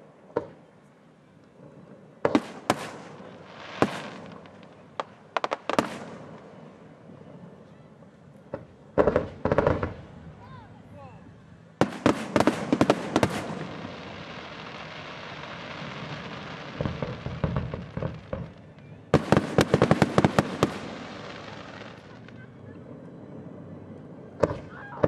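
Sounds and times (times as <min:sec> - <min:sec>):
fireworks bangs: 0:00.0 - 0:00.7, 0:01.5 - 0:25.0
fireworks bursting: 0:00.0 - 0:25.0.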